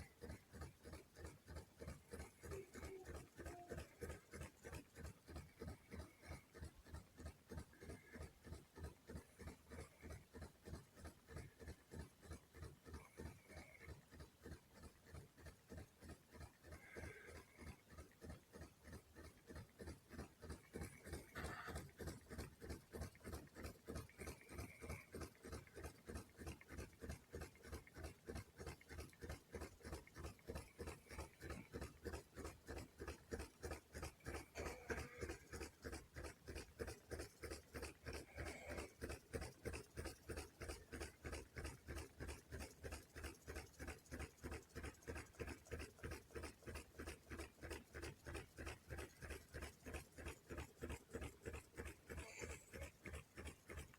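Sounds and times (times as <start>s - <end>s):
faint rhythmic knocking from vehicle: 0.0s - 53.9s.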